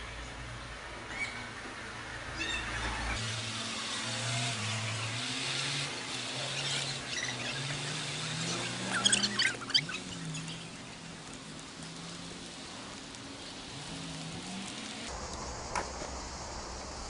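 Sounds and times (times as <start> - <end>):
small birds chirping: 0.0 - 15.1
steady hiss: 3.2 - 17.0.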